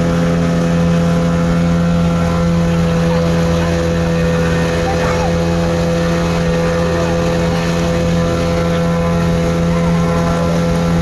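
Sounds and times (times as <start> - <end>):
motorboat engine droning: 0.0 - 11.0
rushing water: 0.0 - 11.0
wind: 0.0 - 11.0.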